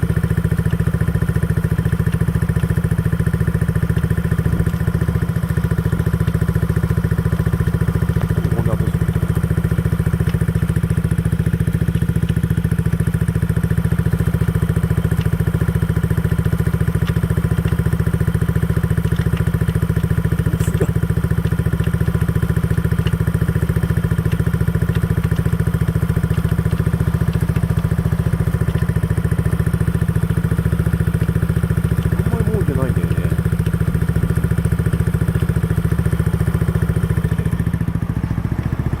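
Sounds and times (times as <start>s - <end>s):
scooter engine idling: 0.0s - 39.0s.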